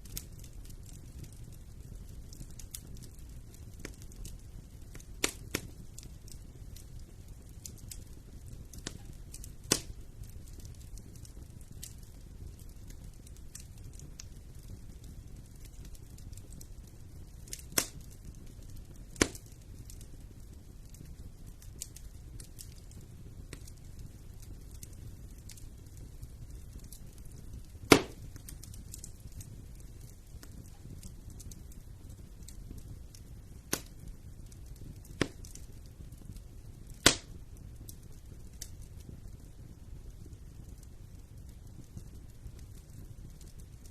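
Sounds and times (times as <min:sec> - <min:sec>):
loud sharp fire pops: 0:00.0 - 0:39.5
wood fire rumbling and crackling: 0:00.0 - 0:43.9.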